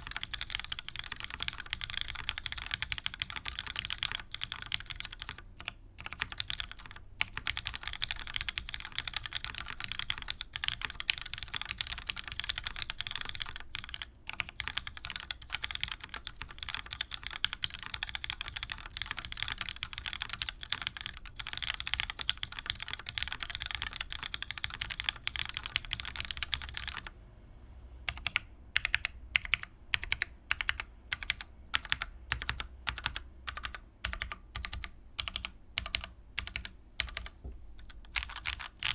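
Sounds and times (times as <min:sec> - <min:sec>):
mechanical keyboard typing: 0:00.0 - 0:27.1, 0:28.1 - 0:38.9.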